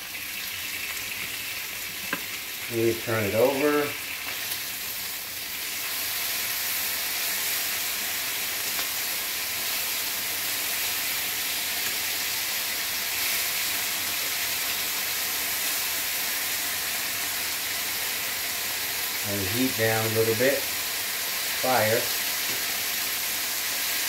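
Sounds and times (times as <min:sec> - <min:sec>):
bacon sizzling in a skillet: 0:00.0 - 0:24.0.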